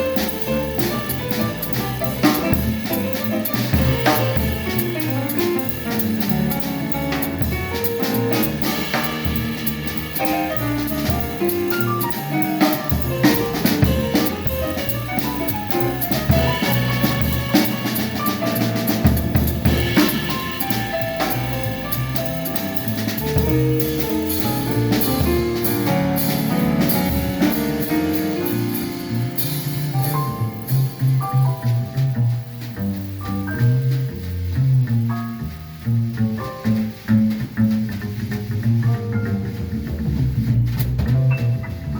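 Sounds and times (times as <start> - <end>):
snare and cymbal strokes: 0.0 - 39.0
jazz quartet playing: 0.0 - 41.9.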